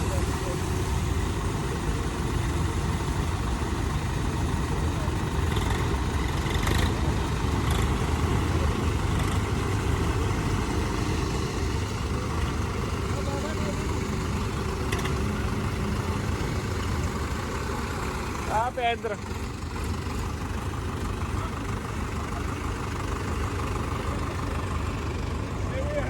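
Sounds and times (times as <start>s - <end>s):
tractor diesel engine rumbling: 0.0s - 26.0s.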